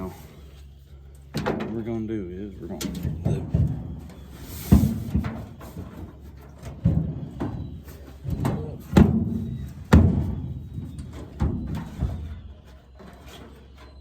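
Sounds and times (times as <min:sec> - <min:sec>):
scraping and shuffling: 0:00.0 - 0:14.0
heavy hollow metal thumps: 0:01.3 - 0:14.0.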